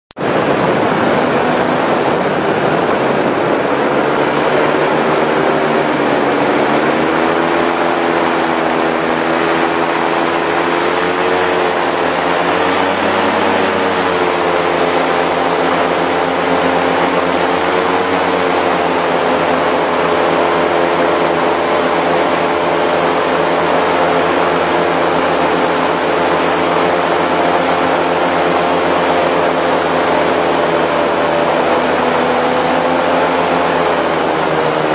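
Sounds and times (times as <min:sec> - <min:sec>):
airboat engine and propeller drone: 0:00.2 - 0:34.9.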